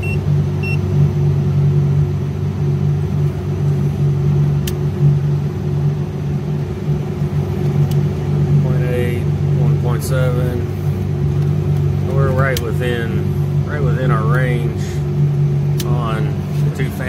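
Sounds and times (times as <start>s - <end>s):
condenser fan hum: 0.0s - 17.0s.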